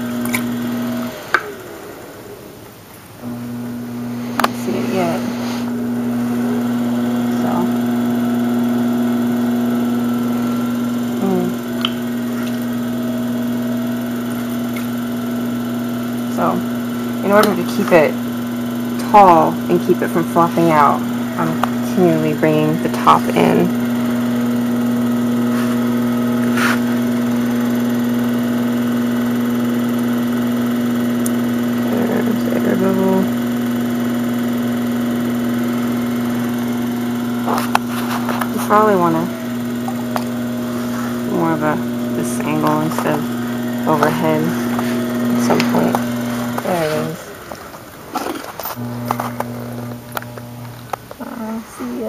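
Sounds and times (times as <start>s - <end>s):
pottery wheel humming: 0.0s - 52.0s.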